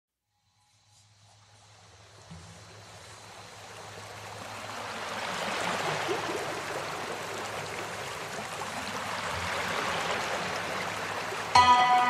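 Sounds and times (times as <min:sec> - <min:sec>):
running water rushing: 0:01.3 - 0:12.0.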